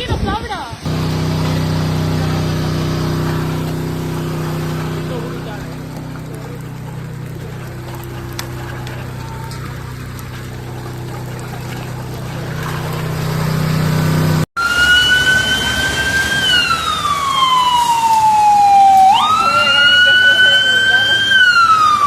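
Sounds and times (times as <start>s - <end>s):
emergency vehicle siren wailing: 0.9s - 22.0s.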